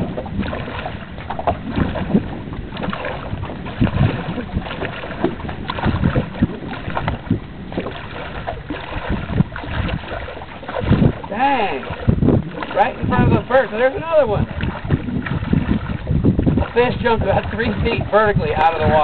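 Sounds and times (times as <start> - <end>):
water sloshing around wading legs: 0.0 - 19.0
wind buffeting microphone: 0.0 - 19.0.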